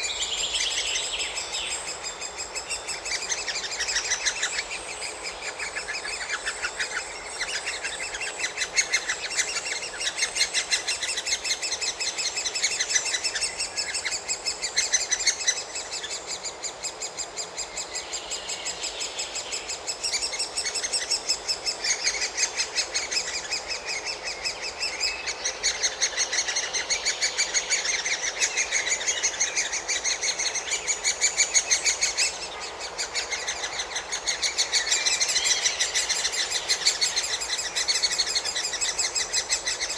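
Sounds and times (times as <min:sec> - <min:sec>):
woodpecker chicks begging calls: 0:00.0 - 0:39.9.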